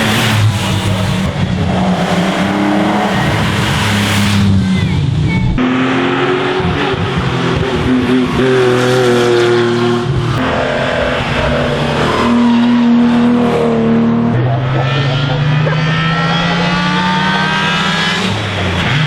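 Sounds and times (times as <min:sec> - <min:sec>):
racing car engine accelerating: 0:00.0 - 0:19.0.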